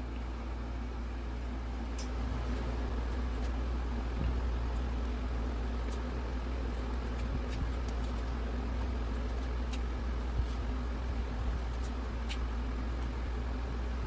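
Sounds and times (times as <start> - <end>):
low hum of machinery: 0.0 - 14.0.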